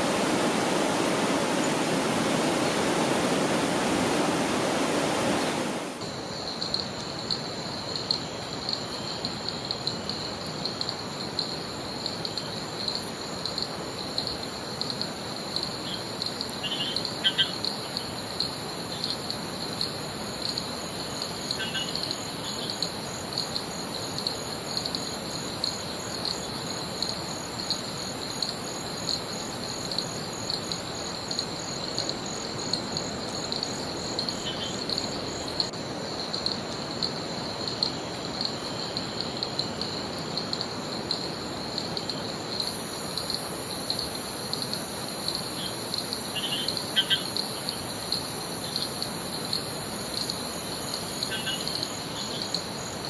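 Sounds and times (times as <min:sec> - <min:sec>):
background hiss: 0:00.0 - 0:53.0
insects buzzing: 0:00.0 - 0:53.0.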